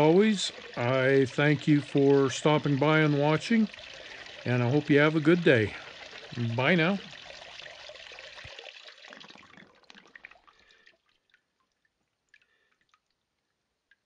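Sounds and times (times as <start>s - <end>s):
faint water drips: 0.0s - 14.0s
water trickling over gravel: 0.0s - 14.0s.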